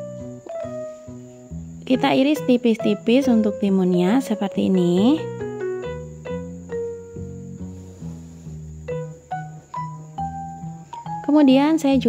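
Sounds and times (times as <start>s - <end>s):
low sustained bass: 0.0s - 4.2s, 5.0s - 11.0s.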